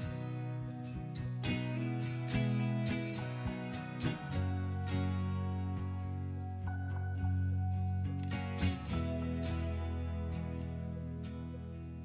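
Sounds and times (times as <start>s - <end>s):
plucked-string melody: 0.0s - 12.0s
soft background music: 0.0s - 12.0s.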